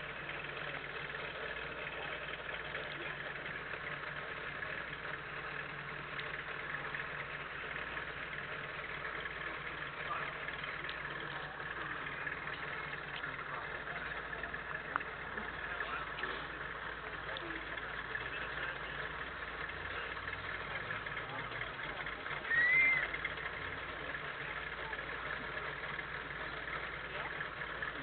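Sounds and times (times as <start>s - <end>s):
car engines idling: 0.0s - 28.0s
faint voices: 0.0s - 28.0s.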